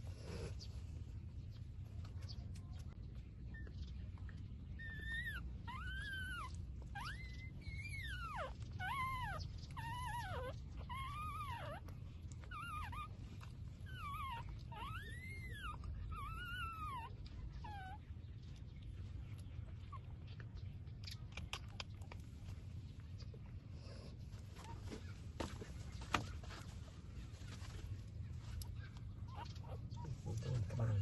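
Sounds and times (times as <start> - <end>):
low steady rumble: 0.0 - 31.0
puppy whining: 3.4 - 22.3, 23.2 - 26.7, 27.4 - 31.0.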